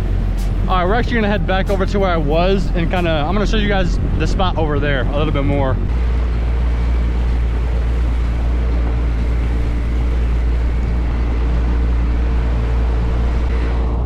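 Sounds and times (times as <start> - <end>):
rushing water and wind: 0.0 - 13.6
personal watercraft engine: 0.0 - 14.0.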